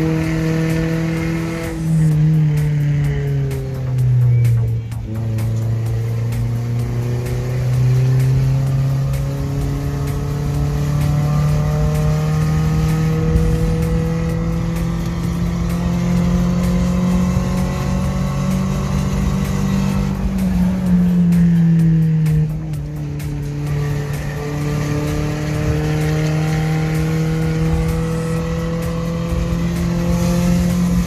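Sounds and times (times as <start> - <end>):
engine revs climbing: 0.0 - 31.0.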